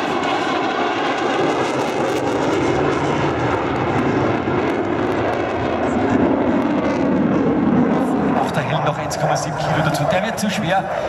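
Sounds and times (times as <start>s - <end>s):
jet aircraft engine rushing: 0.0s - 11.0s.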